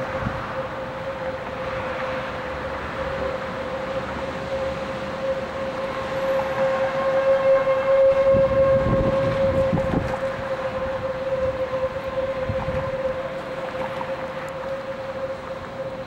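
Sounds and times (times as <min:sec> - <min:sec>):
tornado warning siren: 0:00.0 - 0:16.0.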